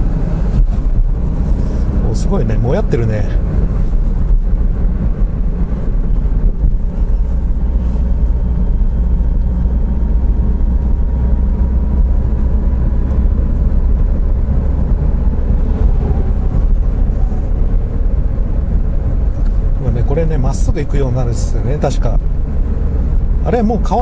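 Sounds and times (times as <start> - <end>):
car engine running: 0.0 - 24.0
tyre and road rumble: 0.0 - 24.0.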